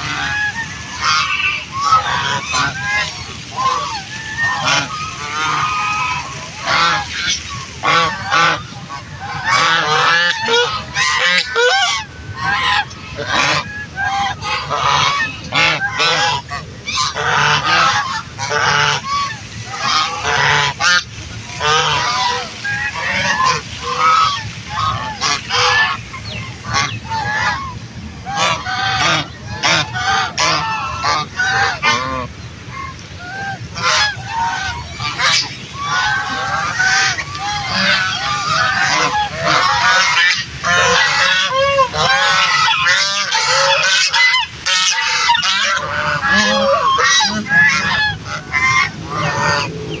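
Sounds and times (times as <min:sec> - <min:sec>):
flock of ducks quacking: 0:00.0 - 0:50.0.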